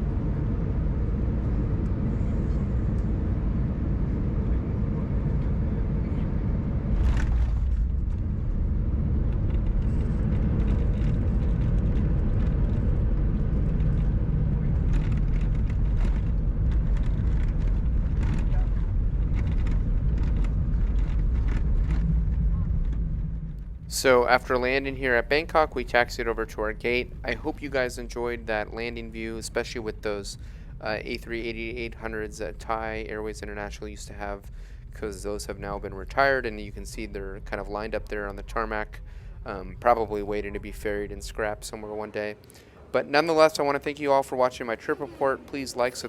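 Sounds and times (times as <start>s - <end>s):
aircraft cabin engine rumble: 0.0s - 46.0s.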